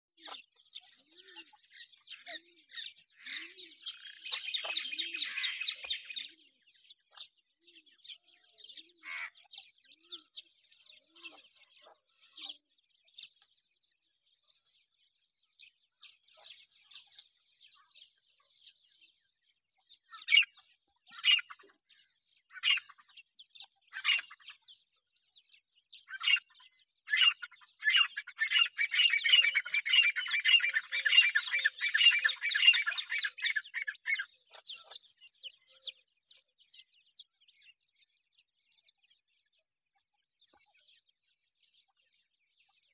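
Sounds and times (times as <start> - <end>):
francolin birds calling: 0.0 - 42.9.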